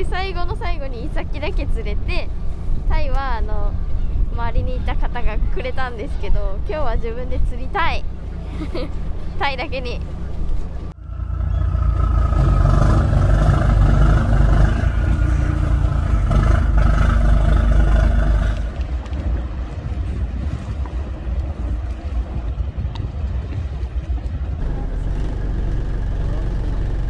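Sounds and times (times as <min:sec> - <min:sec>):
boat engine rumble: 0:00.0 - 0:27.0.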